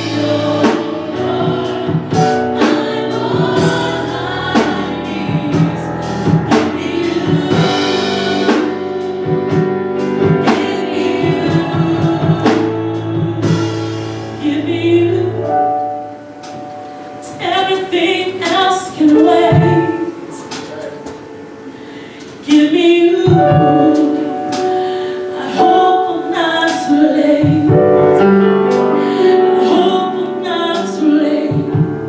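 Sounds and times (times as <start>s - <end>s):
drum kit beat: 0.0s - 21.6s, 22.5s - 32.0s
people singing gospel: 0.0s - 32.0s.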